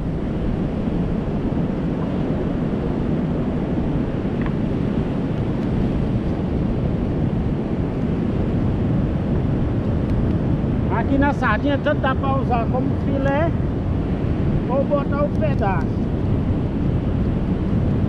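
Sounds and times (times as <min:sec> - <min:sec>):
sea surf: 0:00.0 - 0:18.0
wind rumble on microphone: 0:00.0 - 0:18.0.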